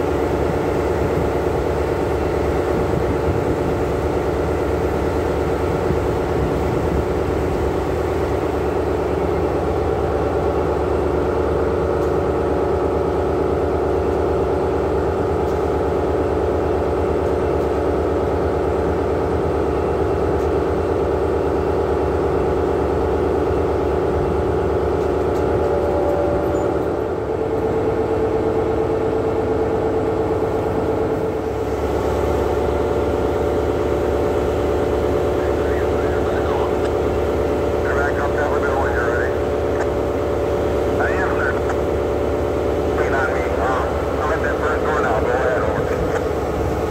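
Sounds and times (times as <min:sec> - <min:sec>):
diesel locomotive idling: 0:00.0 - 0:46.9.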